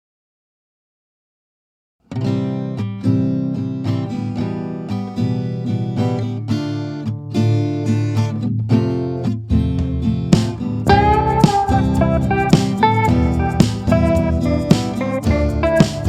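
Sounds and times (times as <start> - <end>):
acoustic guitar strumming: 2.1 - 16.0.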